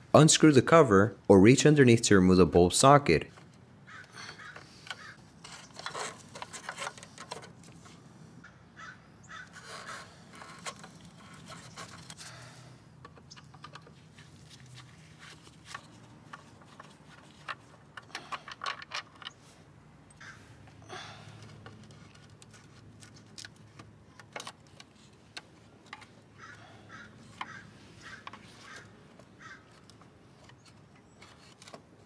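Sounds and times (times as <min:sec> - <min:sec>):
clicks and scrapes of plastic parts: 0:03.3 - 0:08.0, 0:09.4 - 0:19.7, 0:20.7 - 0:32.0.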